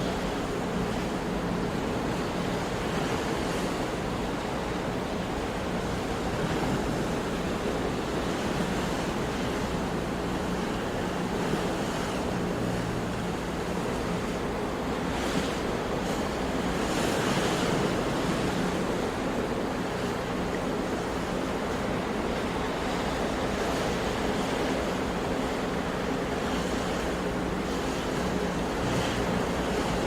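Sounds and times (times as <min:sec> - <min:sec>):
sea waves and surf: 0:00.0 - 0:30.0.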